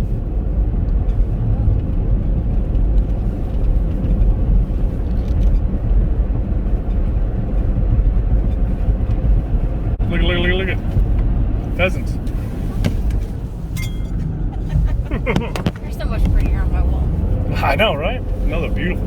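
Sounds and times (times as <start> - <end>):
car engine rumble from inside: 0.0 - 19.0.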